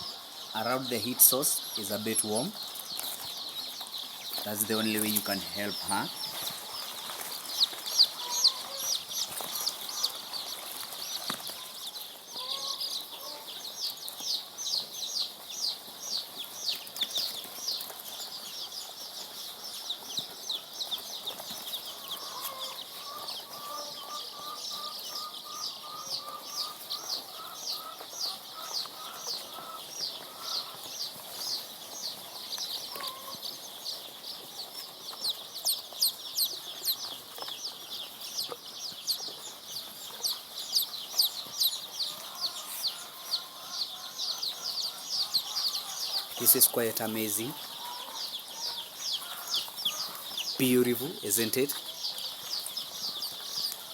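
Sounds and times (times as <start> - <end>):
chicks peeping: 0.0 - 53.9.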